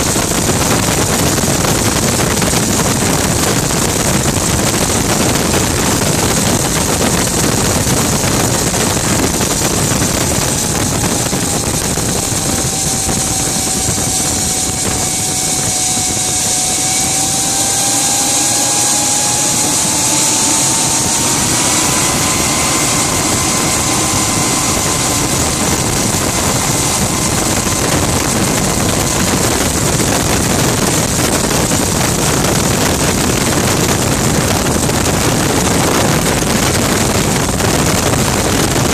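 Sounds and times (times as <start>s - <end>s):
gas turbine engine whine: 0.0s - 38.9s.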